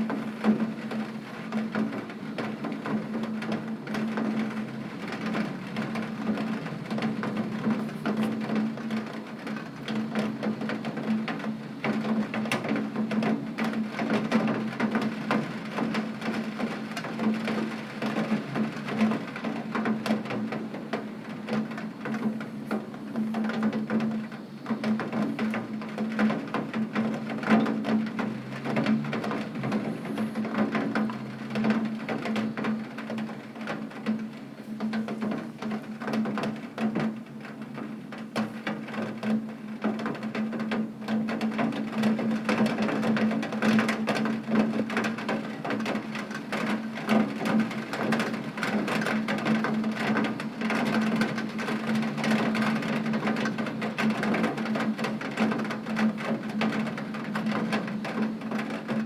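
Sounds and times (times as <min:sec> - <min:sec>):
heavy rain on window: 0:00.0 - 0:59.0.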